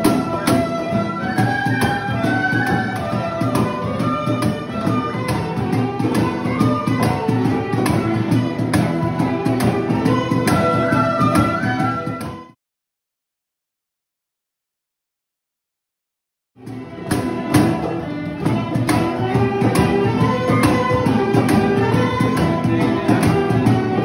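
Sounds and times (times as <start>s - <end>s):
cajon beat: 0.0s - 12.6s, 16.6s - 24.0s.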